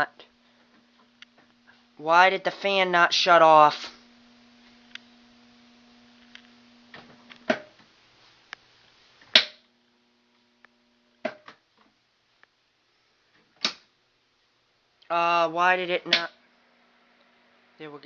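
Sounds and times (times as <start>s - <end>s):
electrical hum: 0.0s - 11.8s, 13.6s - 18.0s.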